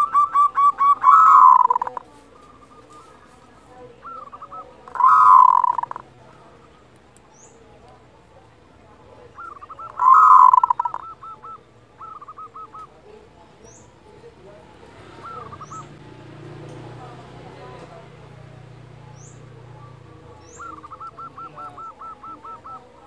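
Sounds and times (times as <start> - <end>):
dove rolling call: 0.0 - 16.1, 17.0 - 23.0.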